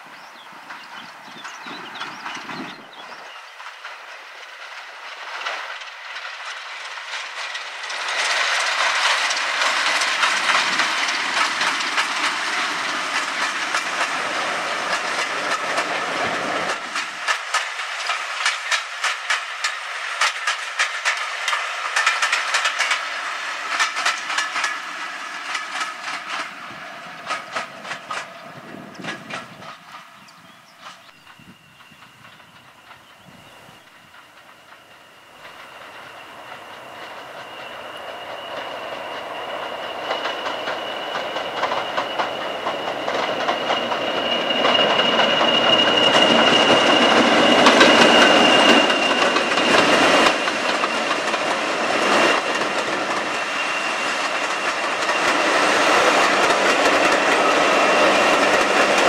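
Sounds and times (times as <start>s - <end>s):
diesel locomotive passing: 0.0s - 59.0s
wheels clattering over rail joints: 0.2s - 33.2s, 33.8s - 59.0s.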